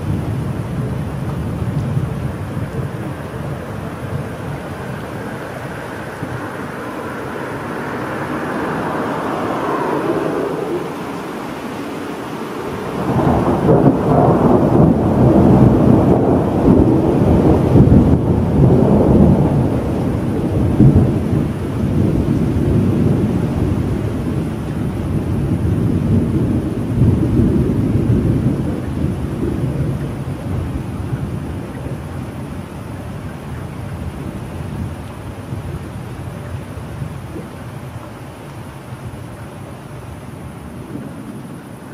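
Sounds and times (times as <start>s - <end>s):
rain hiss: 0.0s - 41.9s
thunder rumbling: 0.0s - 41.9s.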